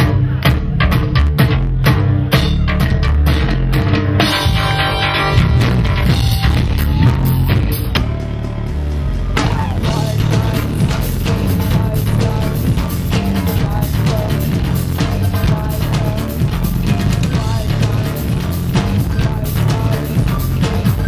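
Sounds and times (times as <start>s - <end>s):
drum kit steady beat: 0.0s - 21.0s
heavy bass line: 0.0s - 21.0s.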